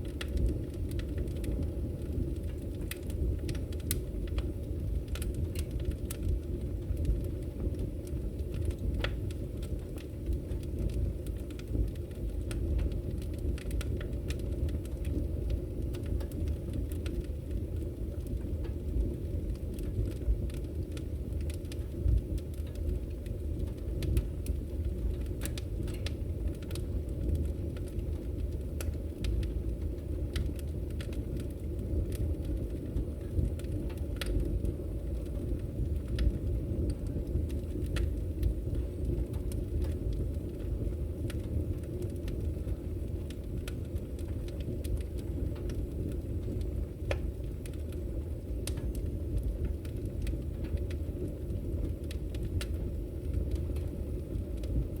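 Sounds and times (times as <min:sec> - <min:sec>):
firewood crackling and popping: 0:00.0 - 0:55.0
low rumble of flames: 0:00.0 - 0:55.0.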